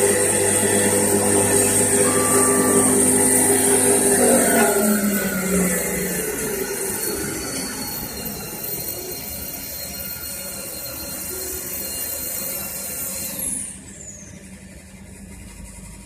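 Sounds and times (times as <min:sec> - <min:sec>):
lathe high-pitched whine: 0:00.0 - 0:16.0.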